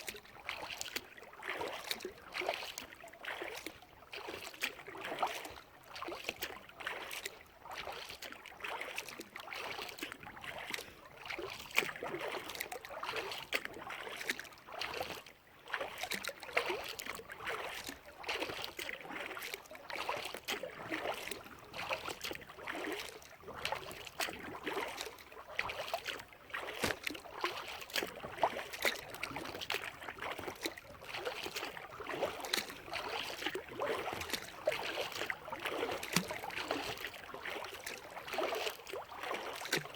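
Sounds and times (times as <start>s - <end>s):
kayak paddle splashing water: 0.0s - 39.9s.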